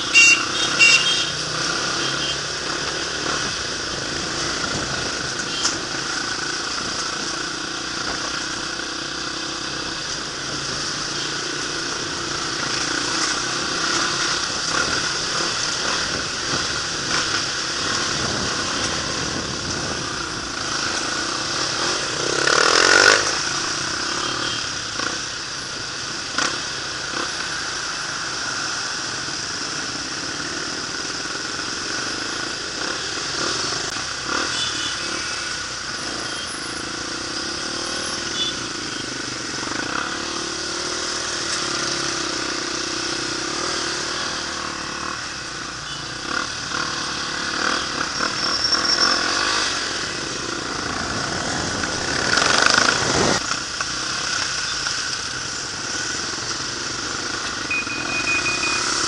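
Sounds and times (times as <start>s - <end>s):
dirt bike engine: 0.0s - 25.2s, 29.6s - 59.0s
other motorbikes: 0.0s - 59.0s.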